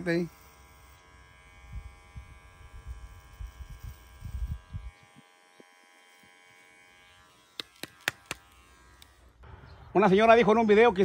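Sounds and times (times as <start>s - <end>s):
electric hair clippers buzzing: 0.0s - 10.0s.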